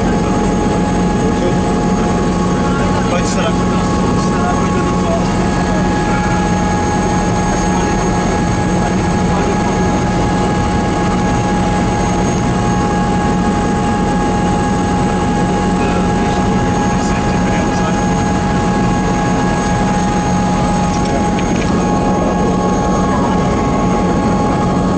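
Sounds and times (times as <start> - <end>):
helicopter running: 0.0 - 24.9.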